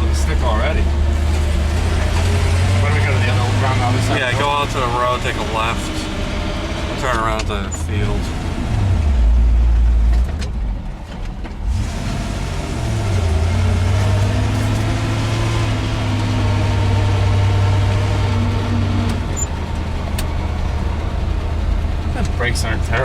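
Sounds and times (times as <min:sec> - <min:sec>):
truck engine pulling: 0:00.0 - 0:23.0.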